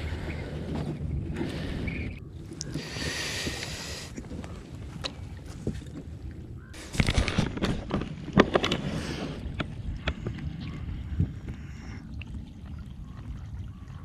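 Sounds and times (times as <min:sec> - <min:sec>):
rumble of wind: 0:00.0 - 0:14.0.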